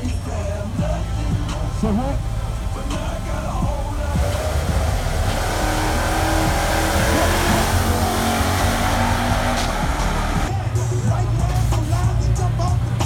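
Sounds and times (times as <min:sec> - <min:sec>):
drag racing cars accelerating: 0:00.0 - 0:13.0.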